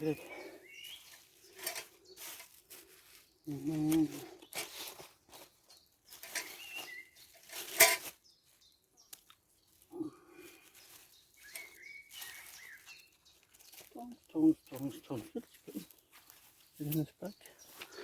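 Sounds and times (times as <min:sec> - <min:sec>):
rustling of fabric and gear: 0:00.0 - 0:18.0.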